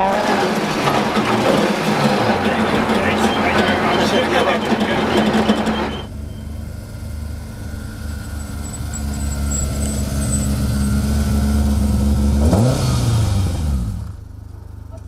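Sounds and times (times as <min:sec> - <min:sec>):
rally car engine revving high: 0:00.0 - 0:14.3.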